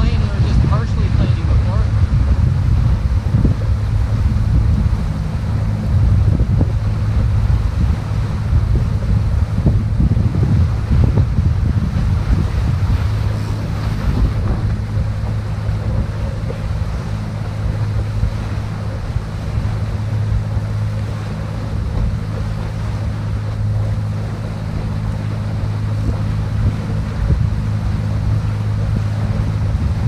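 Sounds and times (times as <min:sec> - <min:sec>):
steady low hum: 0:00.0 - 0:30.0
water rushing along hull: 0:00.0 - 0:30.0
wind buffeting microphone: 0:00.0 - 0:30.0.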